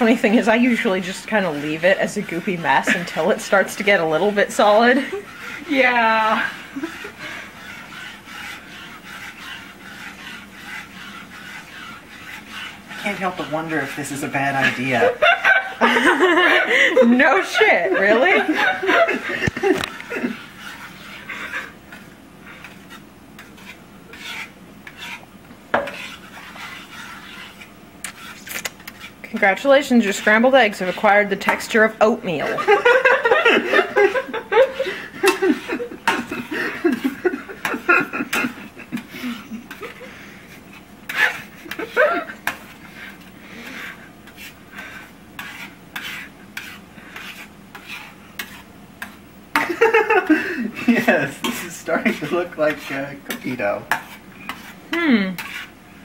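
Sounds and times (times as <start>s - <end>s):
fork scraping frying pan: 0.0s - 55.8s.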